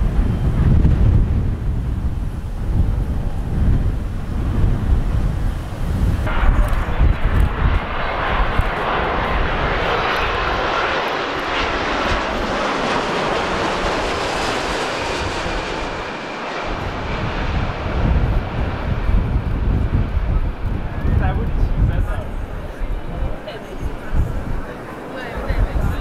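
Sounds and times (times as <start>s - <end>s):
jet airliner roar overhead: 0.0s - 26.0s.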